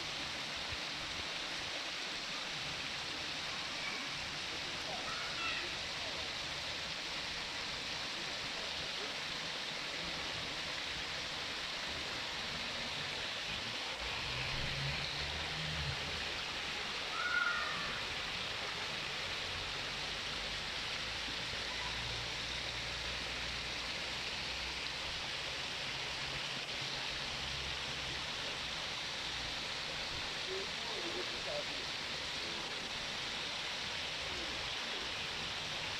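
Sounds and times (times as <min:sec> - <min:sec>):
fountain water splashing into pond: 0:00.0 - 0:35.9.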